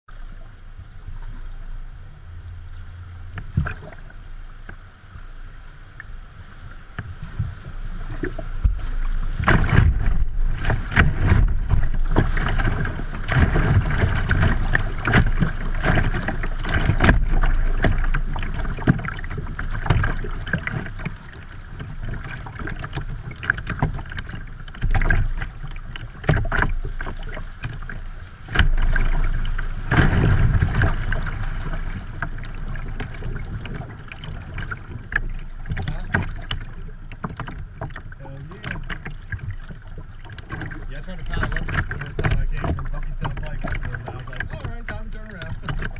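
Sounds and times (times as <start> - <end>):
river water splashing against kayak: 0.1 - 45.9.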